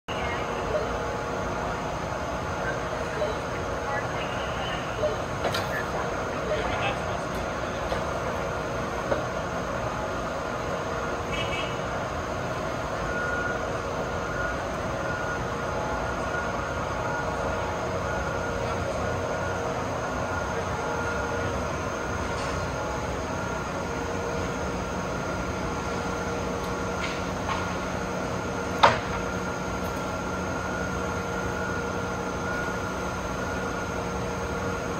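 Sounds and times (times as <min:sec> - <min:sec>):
machinery humming with whine: 0:00.1 - 0:34.9.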